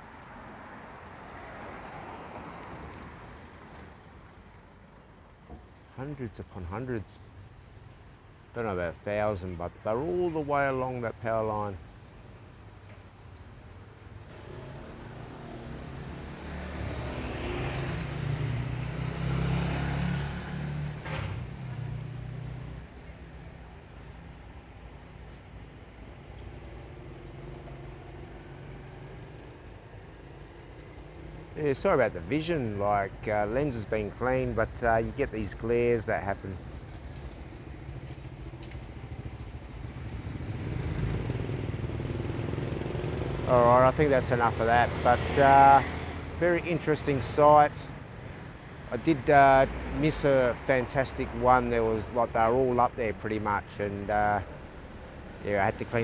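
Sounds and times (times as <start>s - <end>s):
vehicle passing on road: 0.0s - 6.2s, 14.0s - 56.0s.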